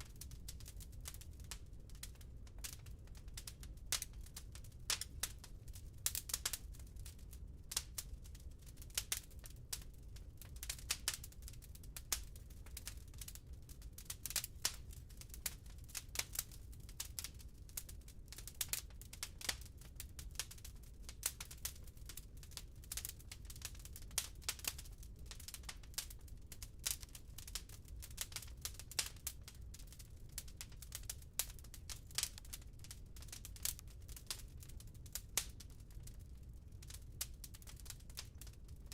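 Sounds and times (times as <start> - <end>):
fire crackling and popping: 0.0 - 38.9
low fire rumble: 0.0 - 38.9.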